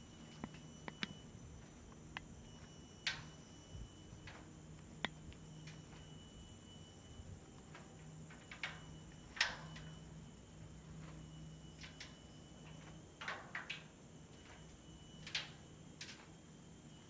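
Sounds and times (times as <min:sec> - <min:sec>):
faint high steady tone: 0:00.0 - 0:17.0.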